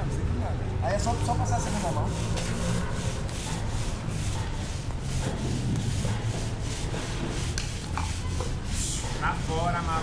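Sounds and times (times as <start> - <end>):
paint roller rasping on concrete: 1.0 - 10.0.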